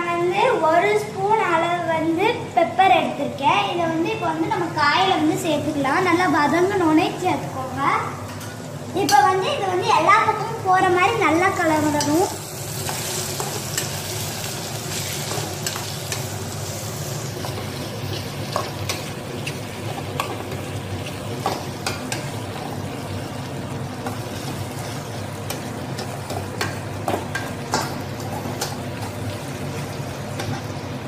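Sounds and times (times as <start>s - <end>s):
vegetables sizzling in a pan: 0.4s - 31.0s.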